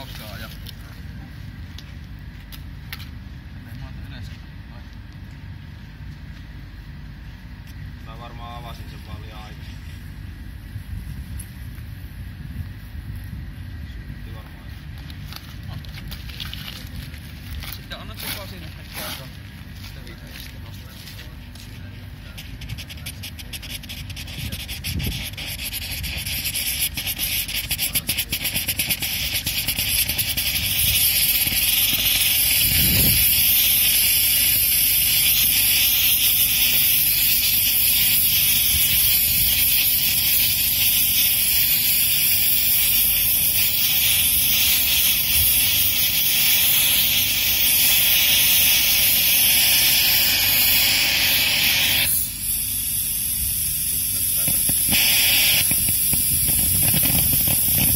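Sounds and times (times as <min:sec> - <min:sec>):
small rocket engine hissing: 0:00.0 - 0:04.3, 0:06.6 - 0:57.9.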